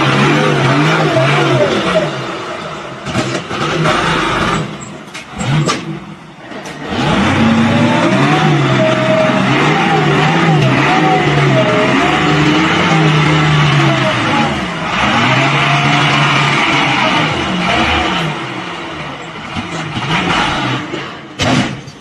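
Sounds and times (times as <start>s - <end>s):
vehicle engine running: 0.0s - 21.8s.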